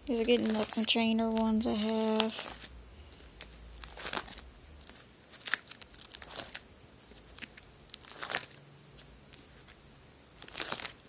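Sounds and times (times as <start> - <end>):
plastic sleeve pages crinkling: 0.0 - 11.0.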